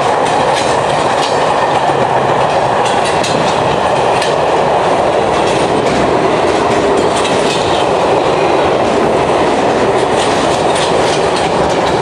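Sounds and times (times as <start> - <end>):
train clicks and rattles: 0.0 - 12.0
train wheels rumbling on rail: 0.0 - 12.0.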